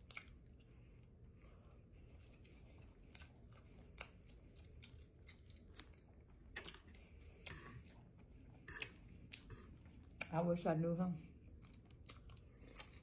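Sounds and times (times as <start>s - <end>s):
crunchy chewing: 0.0s - 10.4s, 11.3s - 13.0s.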